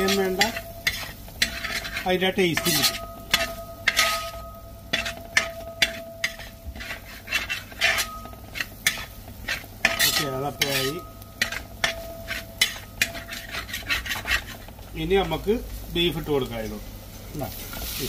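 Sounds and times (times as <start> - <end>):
metal spoon scraping pan: 0.0 - 15.4
light sizzle of frying: 0.0 - 18.0.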